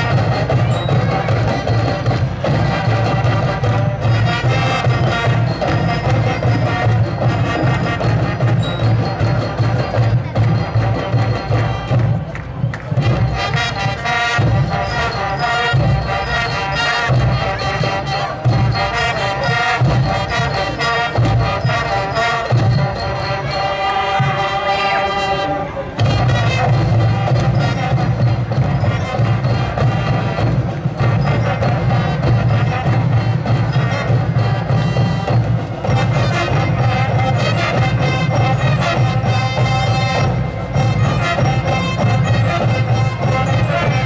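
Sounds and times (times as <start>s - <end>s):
low drum beats: 0.0s - 25.3s, 25.9s - 44.0s
school band playing: 0.0s - 44.0s.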